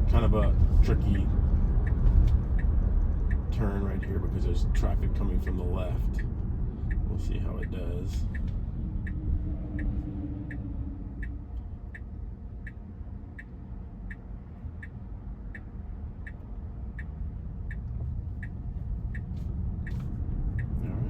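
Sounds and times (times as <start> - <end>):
road and cabin rumble: 0.0 - 21.0
turn signal ticking: 0.0 - 21.0.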